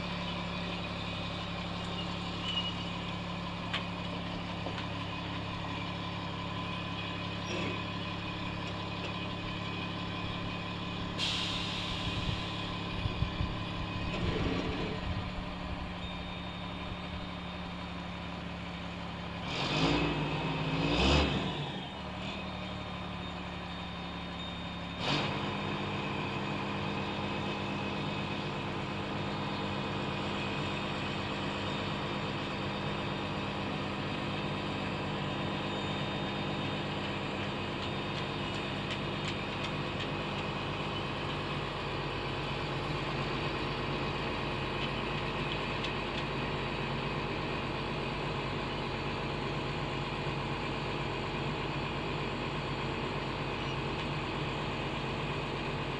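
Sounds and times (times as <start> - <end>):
engine idling: 0.0 - 19.6, 21.4 - 55.9.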